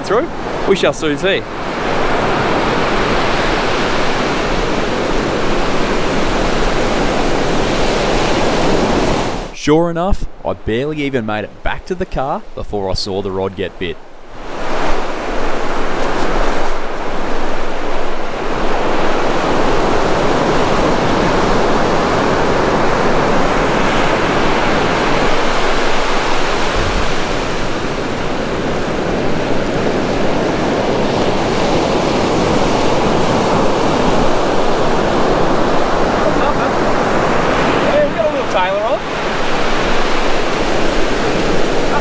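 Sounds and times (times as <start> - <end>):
surf breaking on a beach: 0.0 - 42.0.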